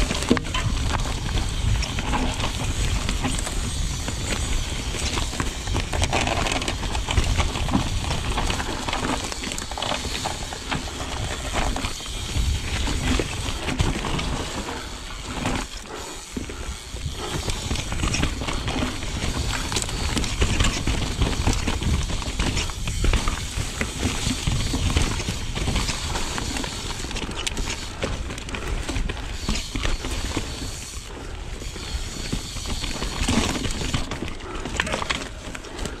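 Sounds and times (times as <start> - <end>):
wind rumble on camera: 0.0 - 15.7, 16.3 - 30.7
bike rattling and knocking: 0.0 - 36.0
bike tyres rolling over dirt: 0.0 - 36.0.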